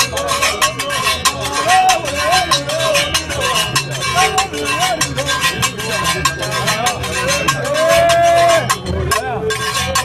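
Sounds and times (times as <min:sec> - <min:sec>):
quick percussive beat: 0:00.0 - 0:10.0.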